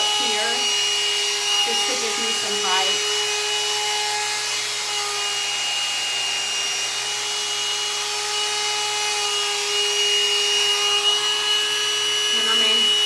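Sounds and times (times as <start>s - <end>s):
hot-air brush motor whine: 0.0s - 13.0s.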